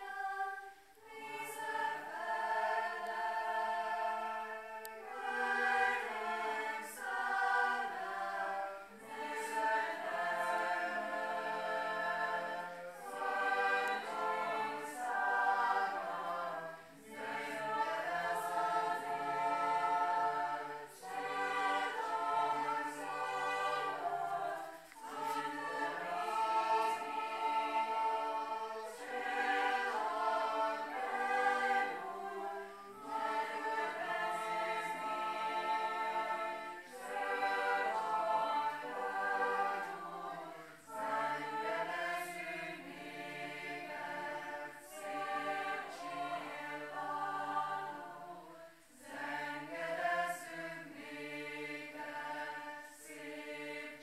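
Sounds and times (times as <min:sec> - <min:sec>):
choir singing in harmony: 0:00.0 - 0:54.0.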